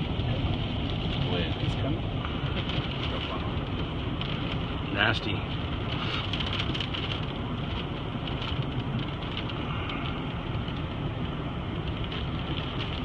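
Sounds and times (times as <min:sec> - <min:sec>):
rain on a car: 0:00.0 - 0:13.0
vehicle rumble: 0:00.0 - 0:13.0
wind: 0:00.0 - 0:13.0.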